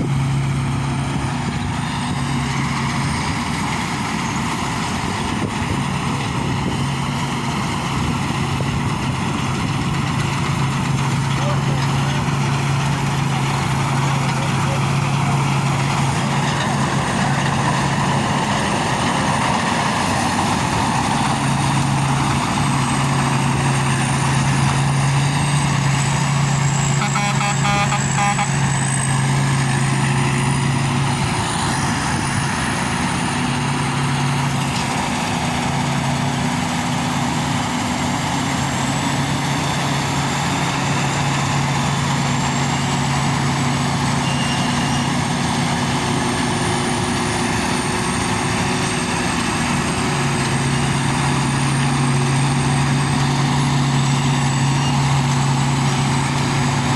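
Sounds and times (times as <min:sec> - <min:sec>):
combine harvester engine hum: 0:00.0 - 0:56.9.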